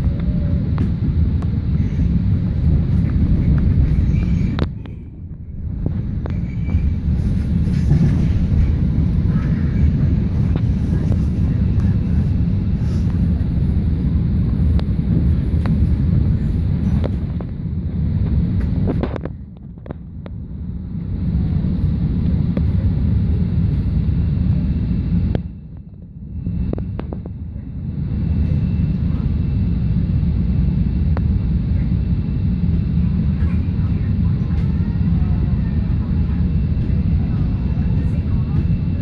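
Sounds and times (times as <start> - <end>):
train rumbling on tracks: 0.0 - 39.0.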